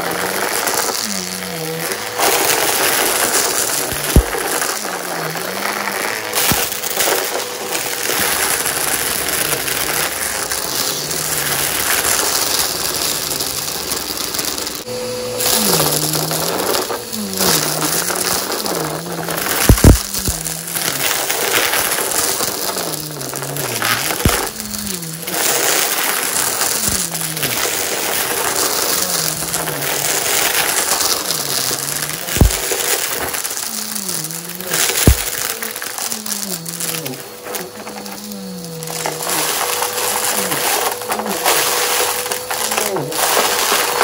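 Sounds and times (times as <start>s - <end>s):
crunchy debris being picked up: 0.0s - 44.0s
vacuum cleaner running: 0.0s - 44.0s.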